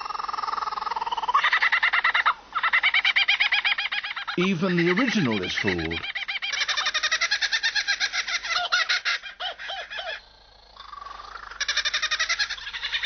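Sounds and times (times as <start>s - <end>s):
kookaburra laughing: 1.0s - 13.0s.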